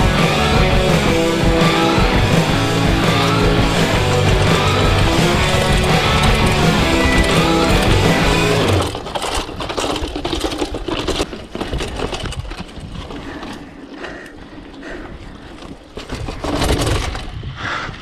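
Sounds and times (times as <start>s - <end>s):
bike clattering down stone steps: 0.1s - 17.5s.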